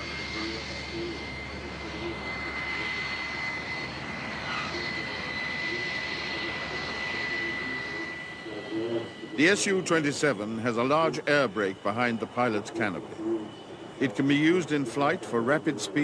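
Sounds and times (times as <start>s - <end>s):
jet engine roar with whine: 0.0s - 16.0s.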